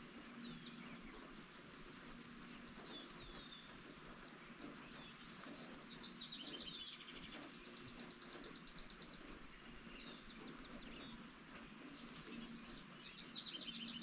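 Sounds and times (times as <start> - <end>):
light rain: 0.0 - 14.0
songbirds singing: 0.0 - 14.0.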